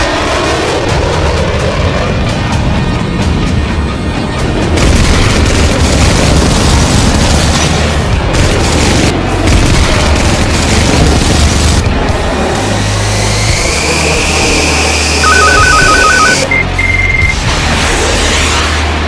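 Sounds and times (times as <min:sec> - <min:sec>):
continuous roar: 0:00.0 - 0:19.0
music: 0:00.0 - 0:19.0.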